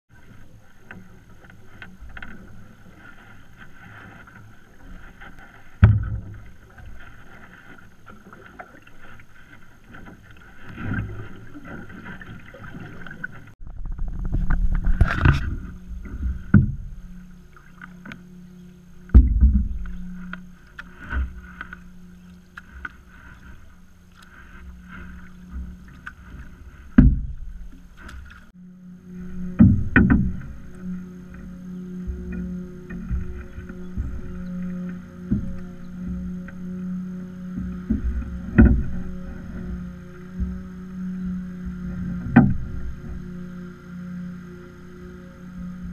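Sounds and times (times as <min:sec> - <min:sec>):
paddle knocking against canoe: 0:00.1 - 0:45.9
water and hull noise: 0:00.1 - 0:45.9.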